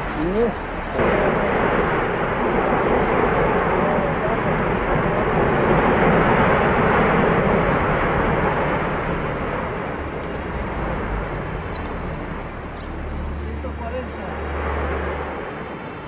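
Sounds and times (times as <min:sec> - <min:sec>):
volcano eruption rushing: 0:00.0 - 0:16.0.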